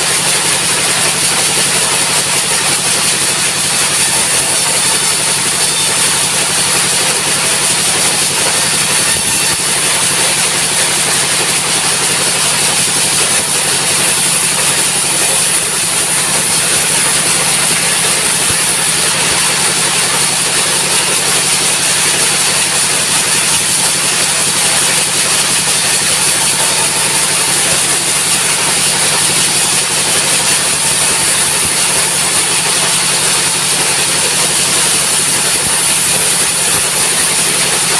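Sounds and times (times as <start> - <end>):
circular saw running: 0.0 - 37.9.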